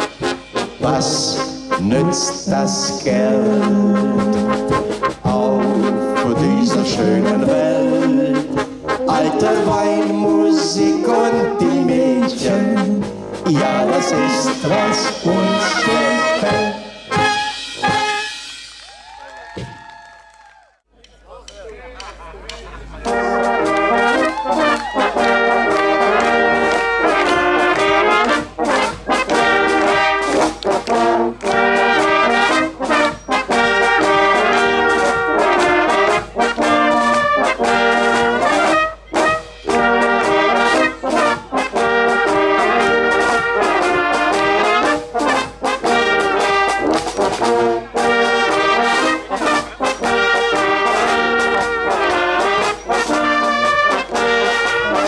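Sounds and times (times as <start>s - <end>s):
brass band playing: 0.0s - 19.3s, 22.7s - 55.0s.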